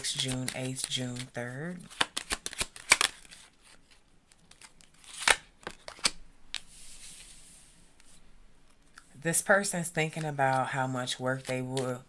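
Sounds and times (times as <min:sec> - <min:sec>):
cards being shuffled: 0:00.0 - 0:09.0, 0:10.0 - 0:12.0.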